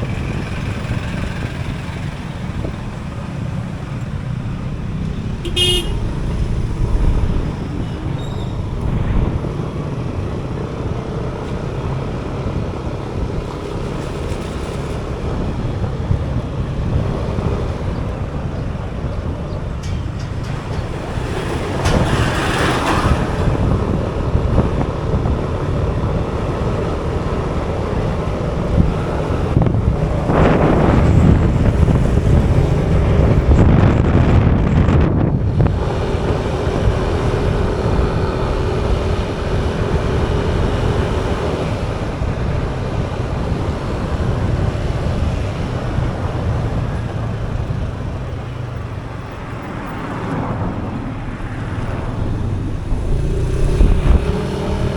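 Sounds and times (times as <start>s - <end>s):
road noise rumble: 0.0s - 54.9s
wind buffeting microphone: 0.0s - 54.9s.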